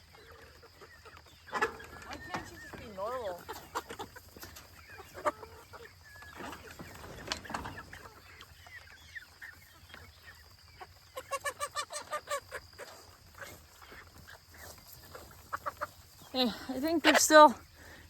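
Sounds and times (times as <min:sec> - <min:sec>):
young chickens clucking: 0:00.0 - 0:18.0.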